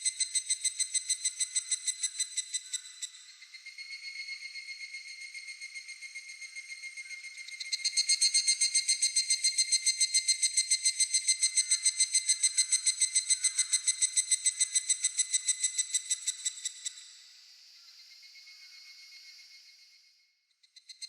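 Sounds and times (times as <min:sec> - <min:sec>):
cicada singing in high pulses: 0:00.0 - 0:20.0
faint high insect drone: 0:00.0 - 0:21.0.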